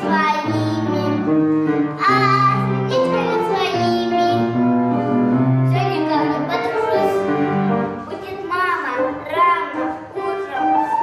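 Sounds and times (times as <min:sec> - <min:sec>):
child singing: 0:00.0 - 0:04.6, 0:05.7 - 0:07.3, 0:08.1 - 0:10.9
instrumental accompaniment: 0:00.0 - 0:11.0.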